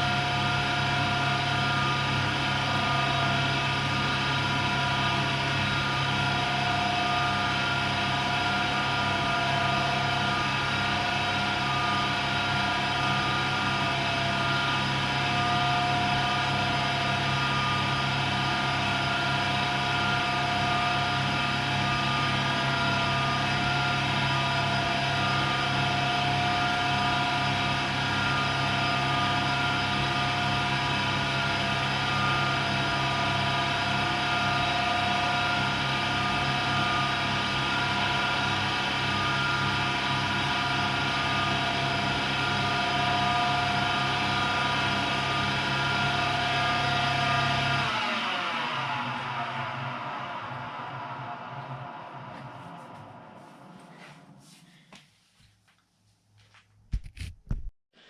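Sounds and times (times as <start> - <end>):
washer-dryer humming with whine: 0.0 - 55.1.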